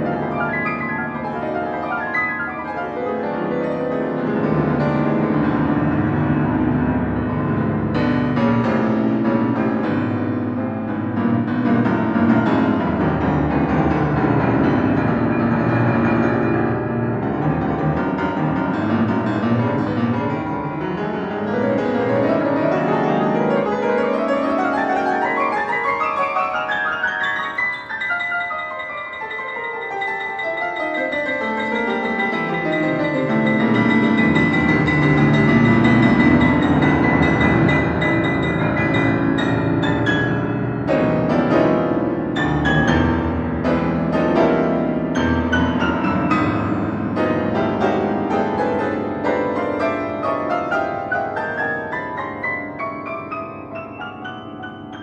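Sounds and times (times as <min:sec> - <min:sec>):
piano playing: 0:00.0 - 0:55.0.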